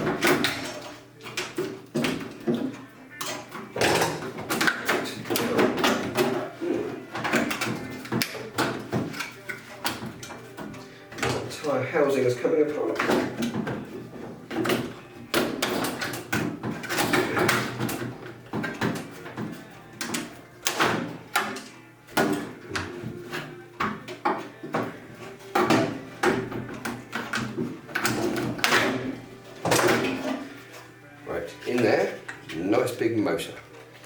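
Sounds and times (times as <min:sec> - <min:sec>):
knocks and clatters of panels: 0:00.0 - 0:30.6.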